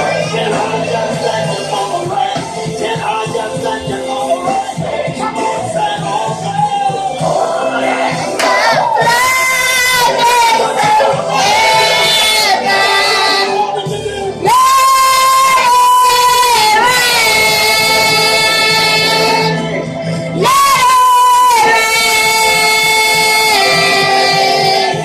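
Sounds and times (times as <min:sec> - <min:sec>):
gospel song with voices singing: 0:00.0 - 0:25.0.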